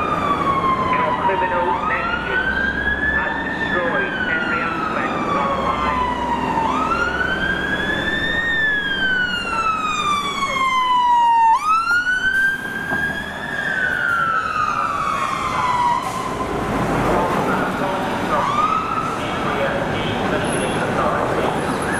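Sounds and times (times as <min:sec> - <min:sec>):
fire engine siren wailing: 0:00.0 - 0:21.9
traffic noise: 0:00.0 - 0:21.9.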